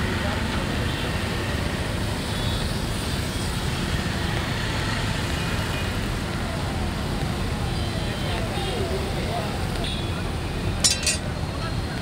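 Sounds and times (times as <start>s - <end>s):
road traffic on wet street: 0.0s - 12.0s.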